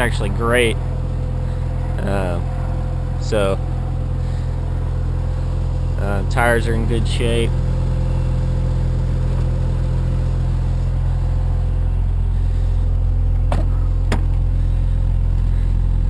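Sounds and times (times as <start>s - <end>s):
rotary engine idling: 0.0s - 16.0s.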